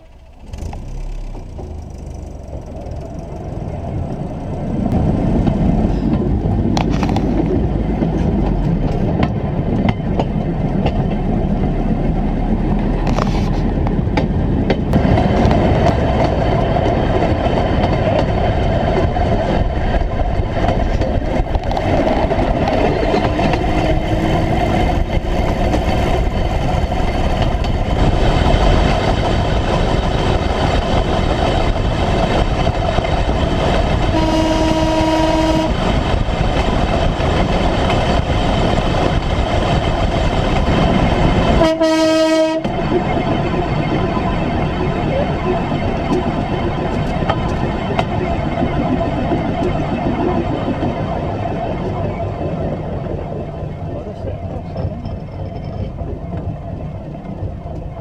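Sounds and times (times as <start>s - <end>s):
engine and wheels rumbling on rails: 0.0s - 58.0s.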